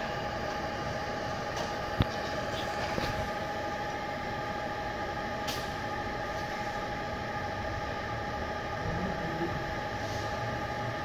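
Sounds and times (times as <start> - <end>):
mechanical hum with whining tones: 0.0 - 11.0.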